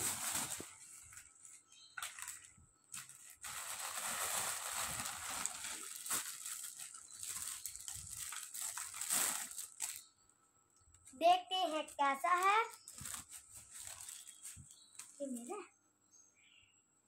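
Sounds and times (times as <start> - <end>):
plastic bag rustling: 0.0 - 10.0, 11.8 - 15.5
sharp plastic crackles: 0.0 - 10.1, 11.8 - 15.6.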